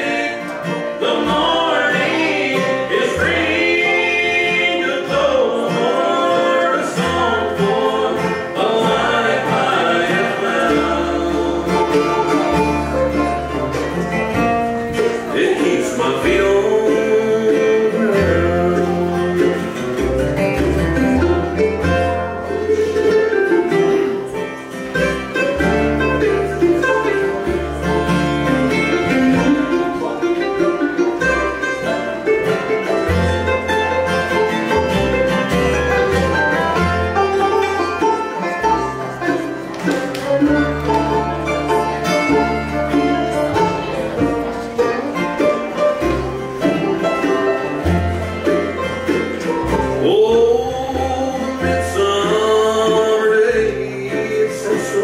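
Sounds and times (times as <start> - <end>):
banjo picking: 0.0 - 55.0
bass line: 0.0 - 55.0
guitar picking: 0.0 - 55.0.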